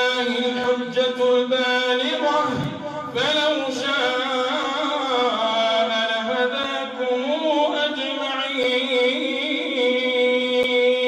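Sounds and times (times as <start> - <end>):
man chanting through a microphone: 0.0 - 11.0.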